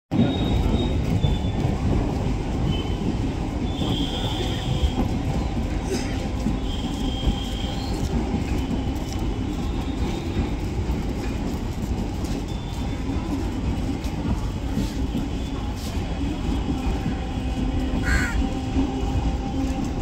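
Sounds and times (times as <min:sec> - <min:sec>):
electric train rumbling on tracks: 0:00.1 - 0:20.0.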